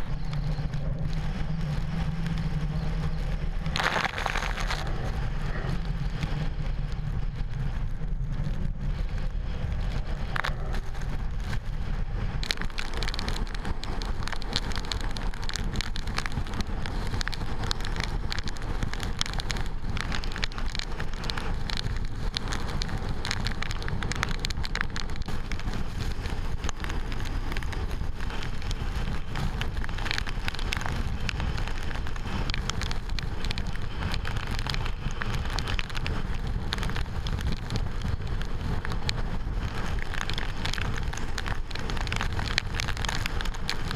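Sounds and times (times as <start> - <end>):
rain striking camera: 0.0 - 43.9
wind buffeting microphone: 0.0 - 43.9.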